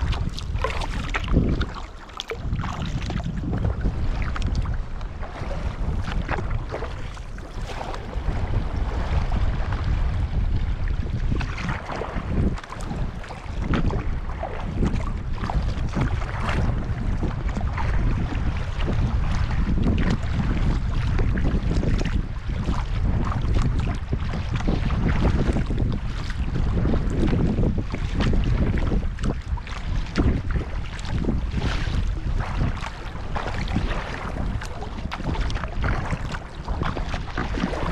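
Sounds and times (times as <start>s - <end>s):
water splashing around kayak: 0.0s - 37.9s
wind buffeting microphone: 0.0s - 37.9s.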